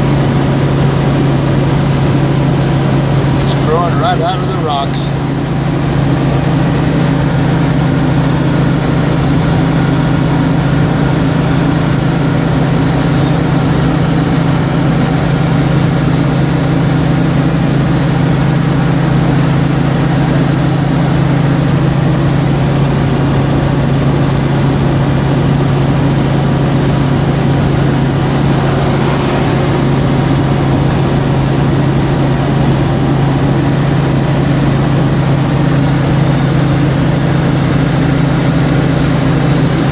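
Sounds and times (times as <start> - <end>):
vehicle engine hum: 0.0 - 39.9.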